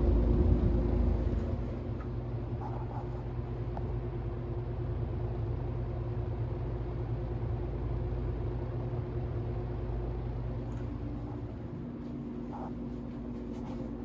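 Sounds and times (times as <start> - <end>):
box fan running: 0.0 - 14.0.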